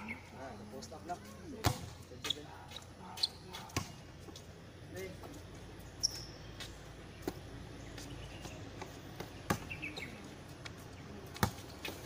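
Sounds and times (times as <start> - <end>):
bird chirp: 0.0 - 4.2, 5.7 - 12.0.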